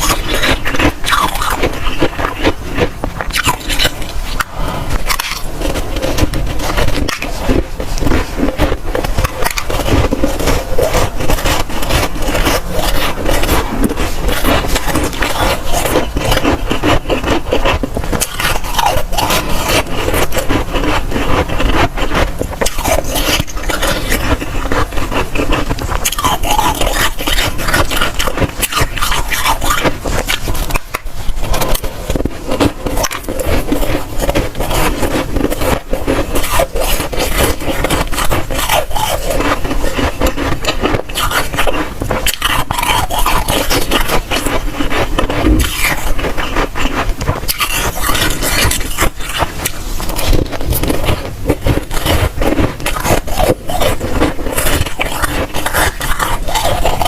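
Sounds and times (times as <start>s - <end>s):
crunching and chewing frost: 0.0s - 57.0s.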